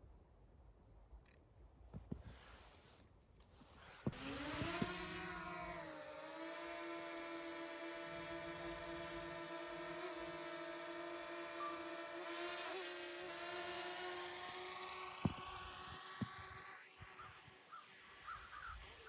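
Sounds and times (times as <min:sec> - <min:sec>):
small motor whining: 0:03.7 - 0:19.0.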